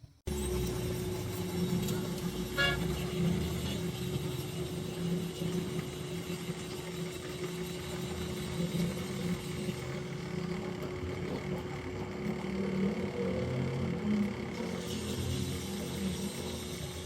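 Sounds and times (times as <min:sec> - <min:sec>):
motor humming: 0:00.3 - 0:17.0.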